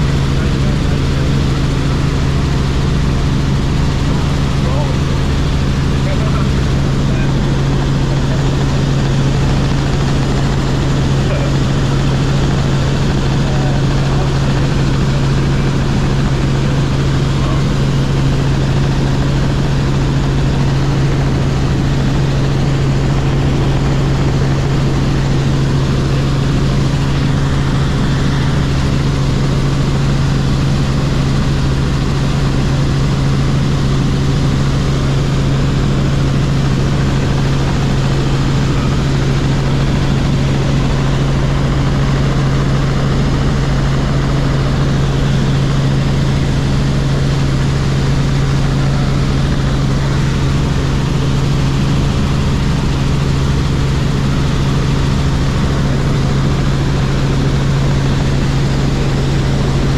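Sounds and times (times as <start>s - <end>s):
helicopter engine and rotors drone: 0.0s - 59.9s.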